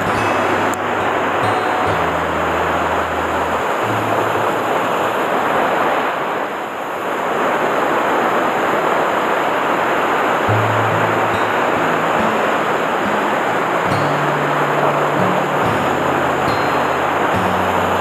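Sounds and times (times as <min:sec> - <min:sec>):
waves breaking on rocks: 0:00.0 - 0:18.0.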